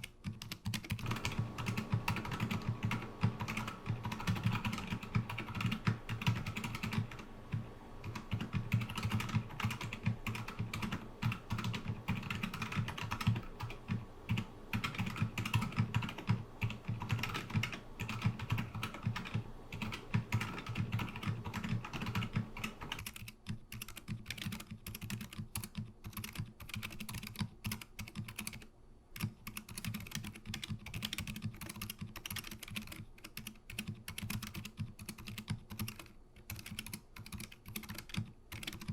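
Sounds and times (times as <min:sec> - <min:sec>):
muted mechanical keyboard typing: 0:00.0 - 0:38.9.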